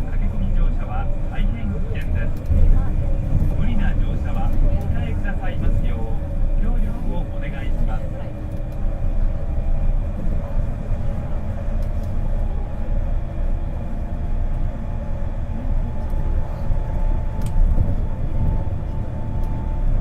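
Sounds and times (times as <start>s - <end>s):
train running rumble and hum: 0.0s - 20.0s.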